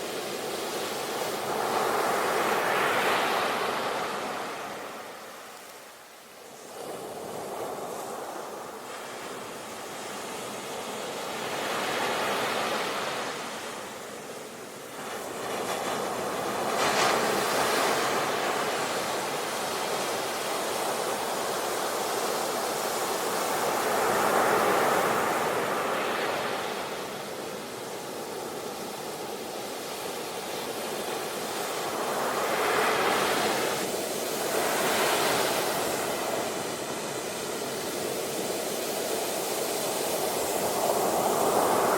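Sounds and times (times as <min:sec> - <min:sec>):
sea waves breaking ashore: 0:06.6 - 0:41.9.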